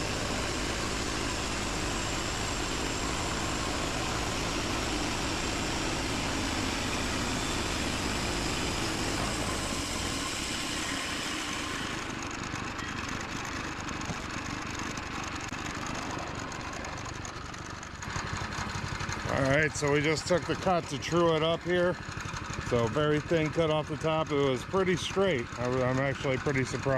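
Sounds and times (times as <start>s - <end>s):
sawmill engine running: 0.0s - 26.9s.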